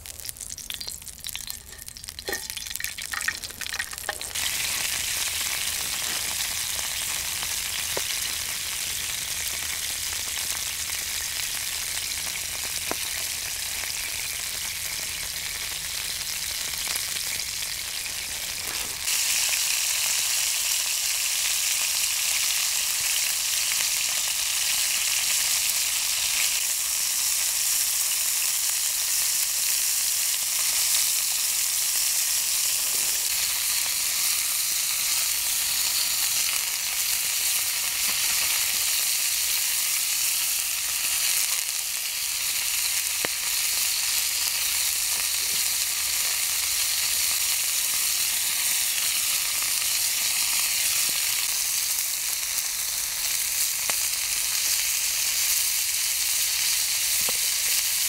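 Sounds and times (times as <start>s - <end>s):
fish frying in oil: 0.0s - 58.0s.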